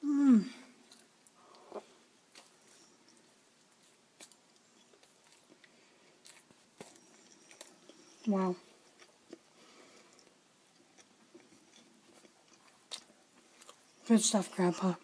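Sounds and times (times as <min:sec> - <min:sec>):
faint chewing: 0:00.8 - 0:15.0.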